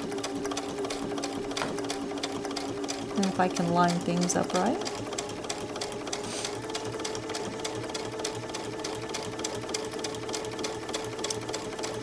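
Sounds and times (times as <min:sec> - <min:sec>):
sewing machine motor hum: 0:00.0 - 0:12.0
sewing machine needle ticking: 0:00.0 - 0:12.0.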